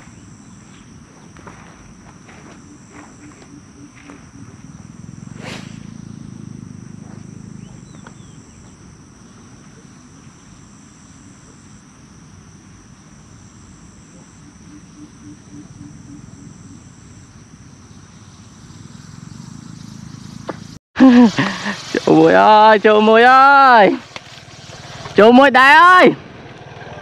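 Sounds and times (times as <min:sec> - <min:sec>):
crickets trilling: 0:00.0 - 0:26.2.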